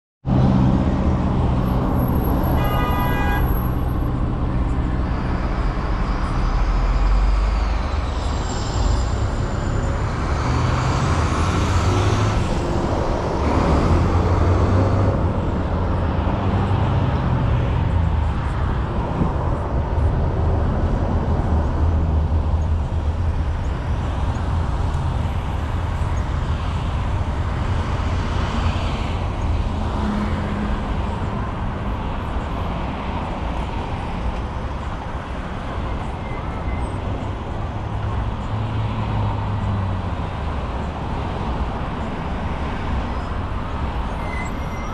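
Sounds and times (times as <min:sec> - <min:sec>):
road traffic passing: 0:00.2 - 0:44.9.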